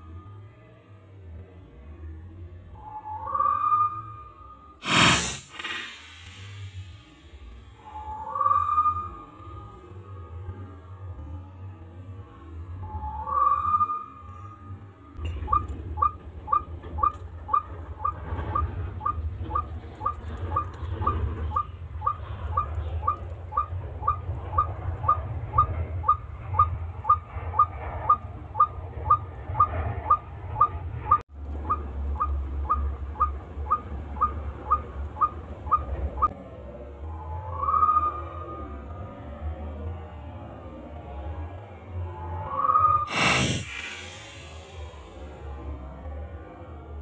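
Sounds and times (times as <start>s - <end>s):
low steady rumble: 0.0s - 47.0s.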